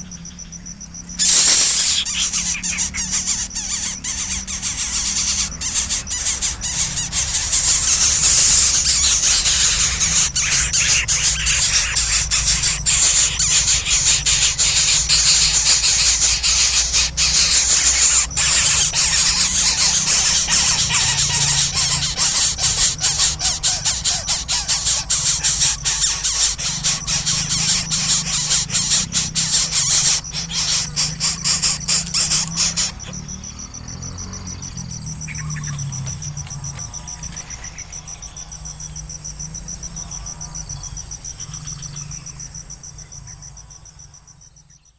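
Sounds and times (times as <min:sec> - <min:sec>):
nestling birds squealing: 0:00.0 - 0:43.5
steady high tone: 0:05.0 - 0:44.9.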